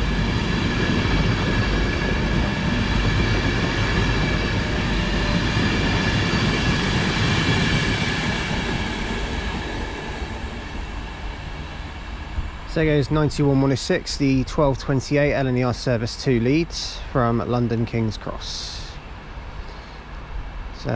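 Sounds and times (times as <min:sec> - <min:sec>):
electric train whine: 0:00.0 - 0:20.9
rumble of train wheels: 0:00.0 - 0:20.9.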